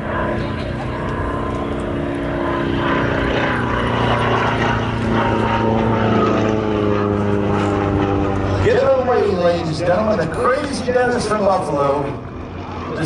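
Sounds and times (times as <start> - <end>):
propeller plane passing at speed: 0.0 - 13.0.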